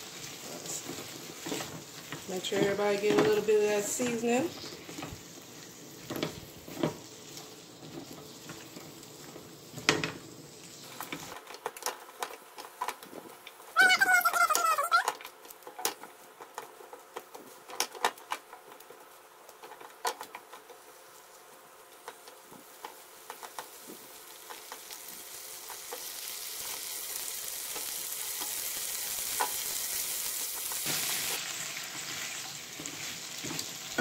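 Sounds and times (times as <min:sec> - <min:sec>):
vegetables sizzling in a frying pan: 0:00.0 - 0:34.0.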